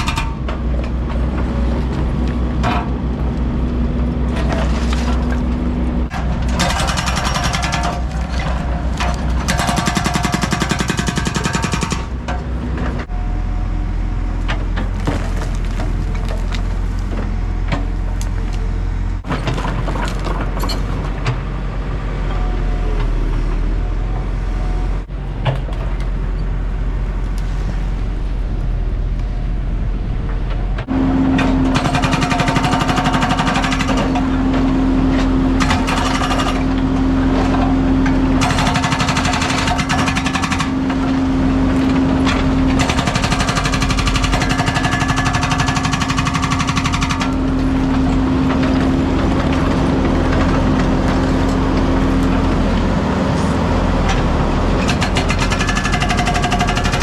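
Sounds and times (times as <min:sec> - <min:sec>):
diesel machinery rumbling: 0:00.0 - 0:57.0.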